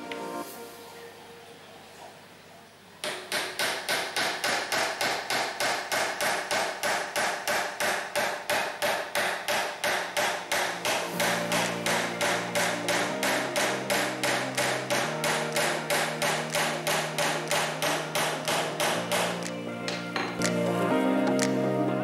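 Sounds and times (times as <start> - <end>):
small hammer tapping wooden pegs: 3.0 - 20.6, 21.2 - 21.6.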